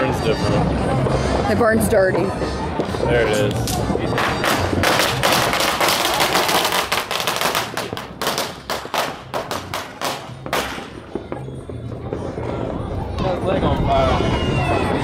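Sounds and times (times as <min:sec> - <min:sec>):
firecrackers cracking: 0:02.6 - 0:15.0.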